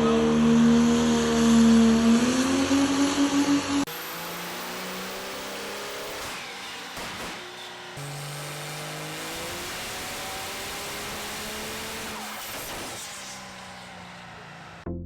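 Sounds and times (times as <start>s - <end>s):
vehicle engine accelerating: 0.0s - 7.0s, 7.8s - 14.9s.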